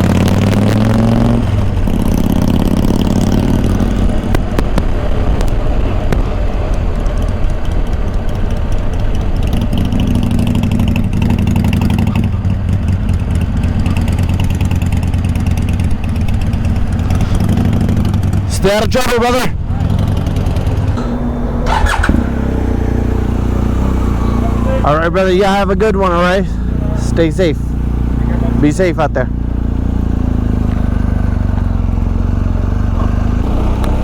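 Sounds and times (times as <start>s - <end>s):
motorcycle engine idling: 1.6s - 18.6s, 19.6s - 34.0s.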